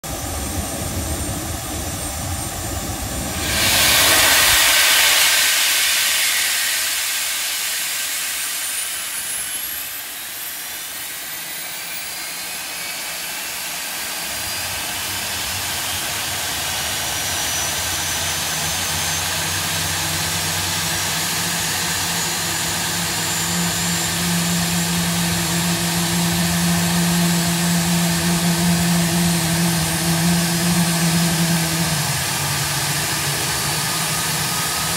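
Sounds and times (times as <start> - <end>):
jet engine high whines: 0.0 - 34.9
loud rush of air: 0.0 - 34.9.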